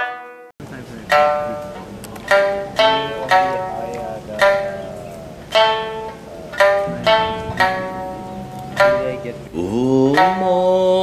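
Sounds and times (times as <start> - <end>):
plucked lute notes: 0.0 - 11.0.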